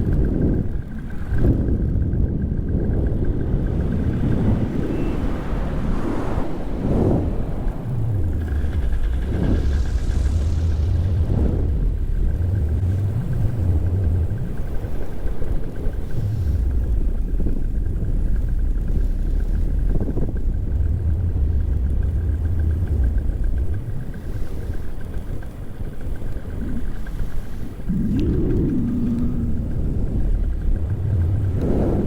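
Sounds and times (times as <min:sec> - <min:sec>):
paramotor engine and propeller: 0:00.0 - 0:32.0
wind rumbling on microphone: 0:00.0 - 0:32.0.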